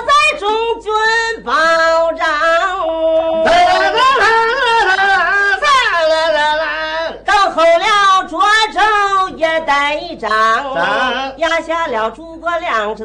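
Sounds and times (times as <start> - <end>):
man and woman singing opera: 1.0 - 11.6.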